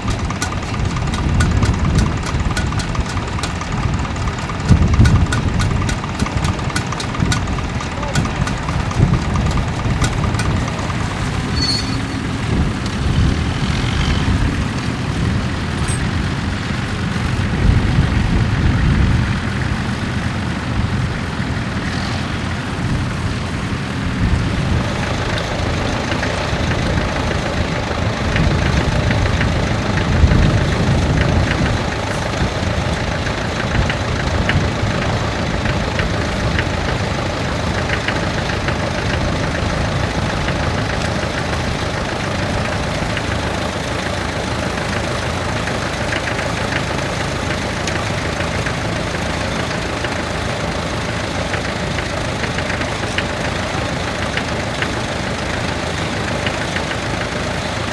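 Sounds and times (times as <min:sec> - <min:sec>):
tractor engine rumbling: 0:00.0 - 0:57.9.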